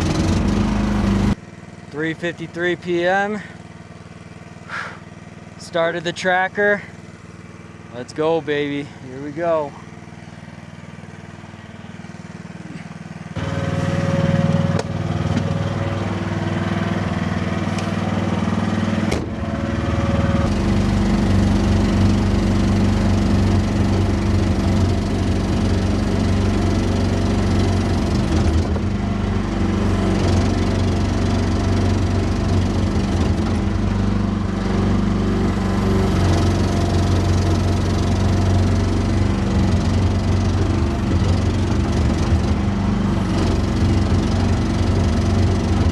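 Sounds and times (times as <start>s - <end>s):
excavator diesel engine running: 0.0s - 1.4s, 2.0s - 45.9s.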